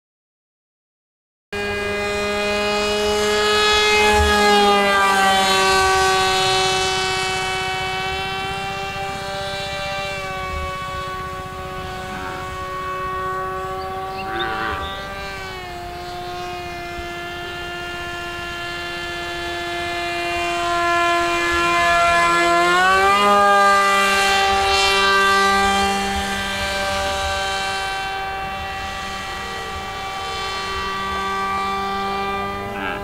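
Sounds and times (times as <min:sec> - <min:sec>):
model jet motor whine: 0:01.6 - 0:33.0.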